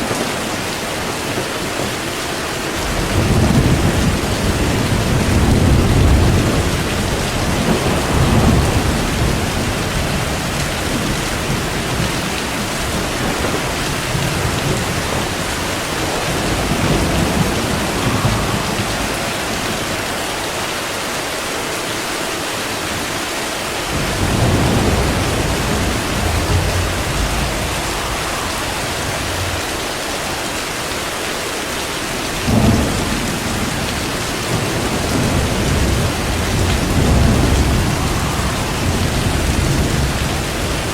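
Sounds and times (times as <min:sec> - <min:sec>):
thunder rumbling: 0:00.0 - 0:21.8, 0:22.8 - 0:40.9
heavy rain: 0:00.0 - 0:40.9
thunder clap: 0:02.8 - 0:21.1, 0:22.9 - 0:40.9.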